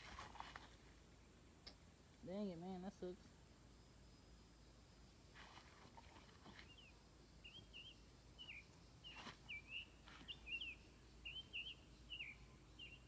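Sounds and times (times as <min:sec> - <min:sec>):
faint songbird chirping: 0:00.1 - 0:13.0.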